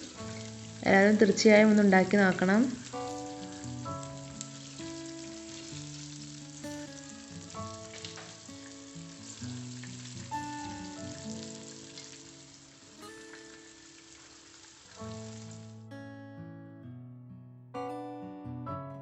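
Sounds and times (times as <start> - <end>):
chicken deep-frying in oil: 0.0 - 15.7
soft background music: 0.0 - 15.9.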